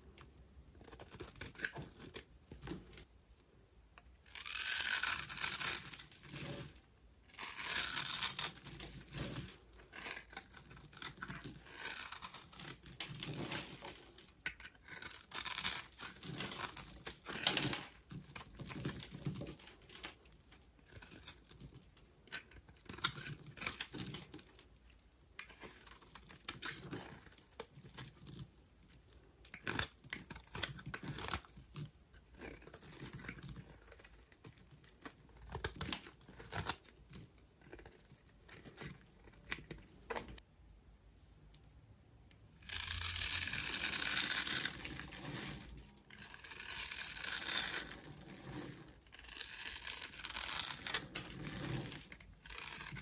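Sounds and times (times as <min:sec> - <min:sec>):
knife carving bar soap: 0:00.0 - 0:40.4, 0:42.6 - 0:53.0.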